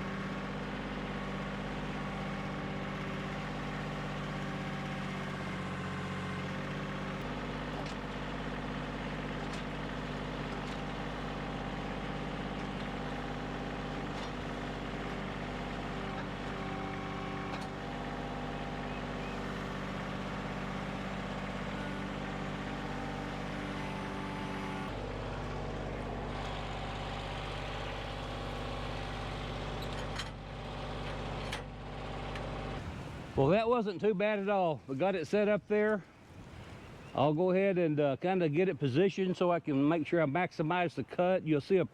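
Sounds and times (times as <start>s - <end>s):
tractor diesel engine running: 0.0s - 33.6s.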